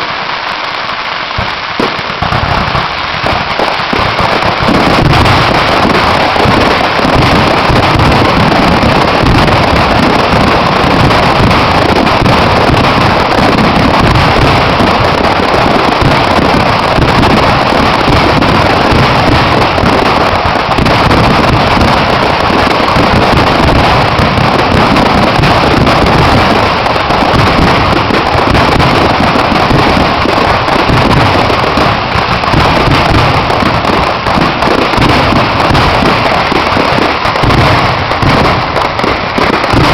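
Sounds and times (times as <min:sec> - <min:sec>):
fireworks exploding: 0:00.0 - 0:39.9.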